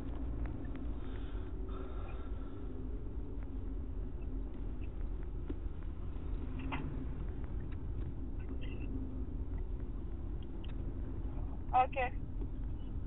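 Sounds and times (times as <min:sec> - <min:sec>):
low telephone line hum: 0:00.0 - 0:13.0.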